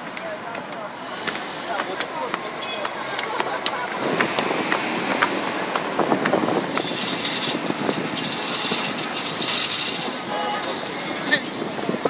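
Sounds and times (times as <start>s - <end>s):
city traffic hiss and rumble: 0.0s - 12.0s.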